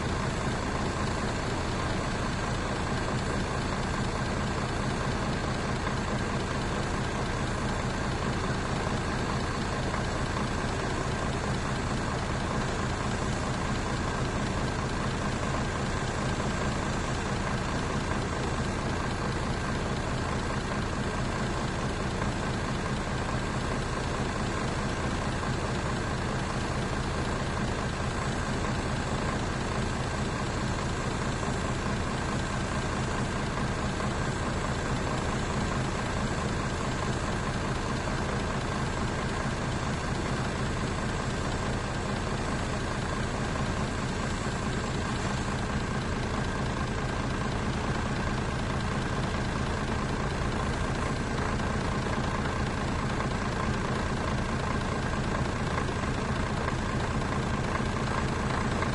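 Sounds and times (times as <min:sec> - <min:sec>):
bus engine idling: 0:00.0 - 0:58.9.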